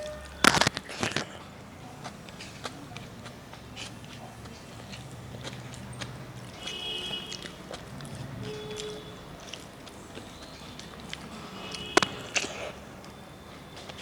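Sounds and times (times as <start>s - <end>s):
eating mouth noises: 0.0s - 2.8s, 3.8s - 13.2s.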